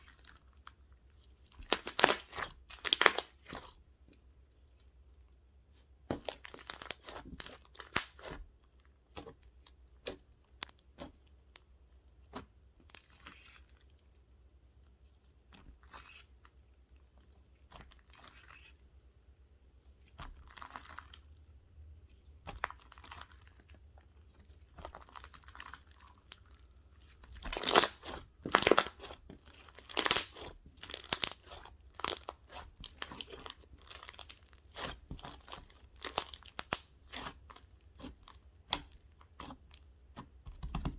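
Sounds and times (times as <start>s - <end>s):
close chewing and mouth sounds: 6.3s - 40.4s.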